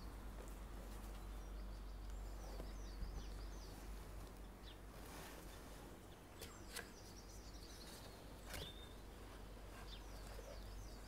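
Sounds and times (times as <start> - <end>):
quiet steady hiss: 0.0 - 11.0.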